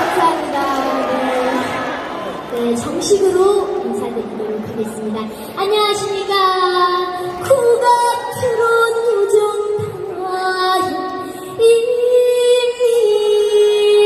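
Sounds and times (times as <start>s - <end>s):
girl singing into a microphone: 2.6s - 14.0s.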